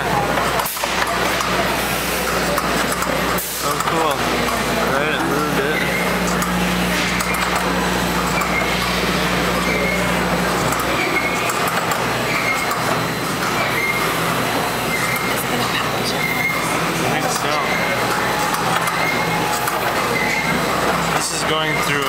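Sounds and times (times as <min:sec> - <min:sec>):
assembly line machinery din: 0:00.0 - 0:22.0
background chatter: 0:00.0 - 0:22.0.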